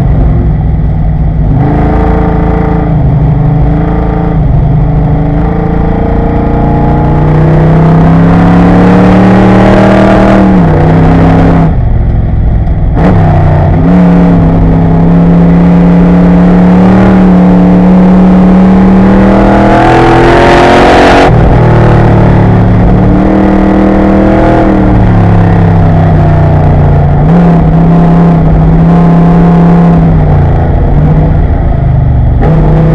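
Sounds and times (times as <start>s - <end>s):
race car engine running hard: 0.0s - 32.9s.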